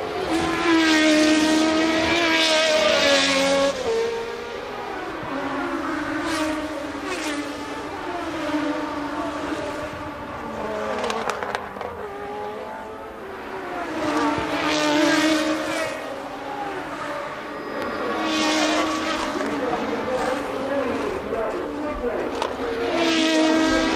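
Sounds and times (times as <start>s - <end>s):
racing car engines: 0.0s - 23.9s.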